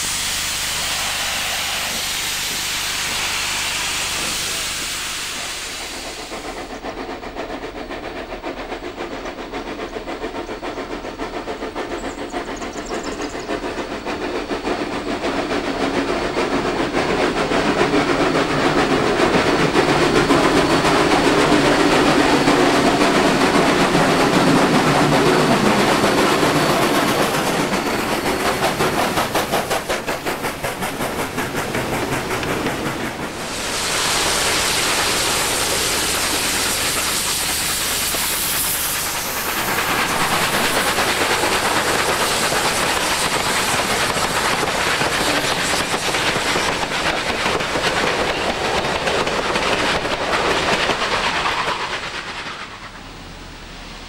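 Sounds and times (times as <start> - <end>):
steam hissing: 0.0 - 54.0
steam locomotive exhaust beats: 0.0 - 54.0.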